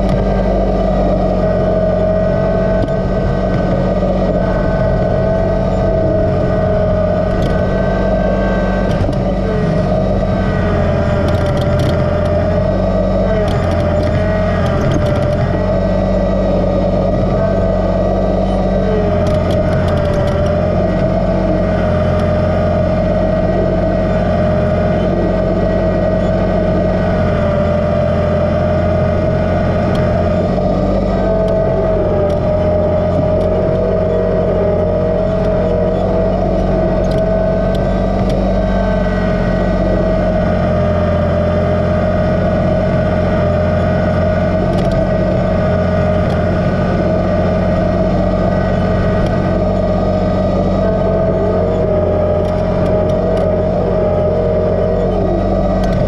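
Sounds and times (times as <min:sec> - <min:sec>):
steady whine: 0:00.0 - 0:56.0
tractor diesel engine running: 0:00.0 - 0:56.0.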